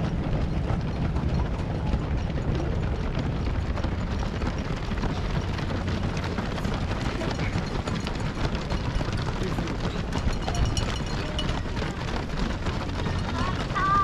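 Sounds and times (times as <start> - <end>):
runners' footsteps patter: 0.0 - 14.0.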